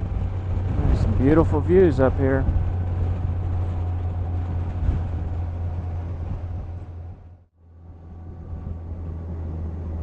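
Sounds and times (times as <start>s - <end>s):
motorcycle engine drone: 0.0s - 10.0s
wind and road noise: 0.0s - 10.0s.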